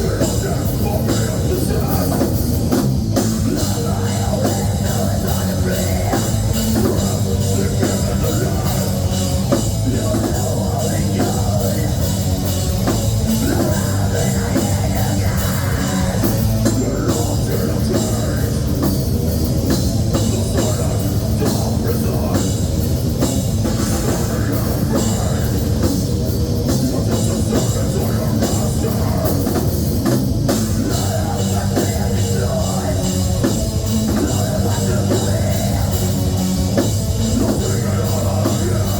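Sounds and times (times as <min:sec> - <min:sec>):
heavy metal band playing: 0:00.0 - 0:38.9.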